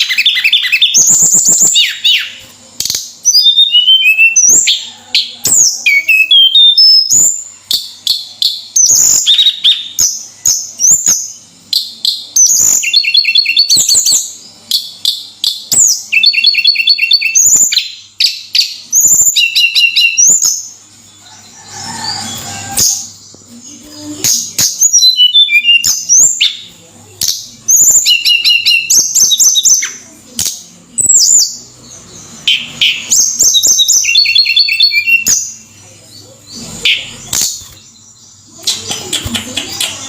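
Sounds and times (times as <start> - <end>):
small bird singing: 0.0 - 40.0.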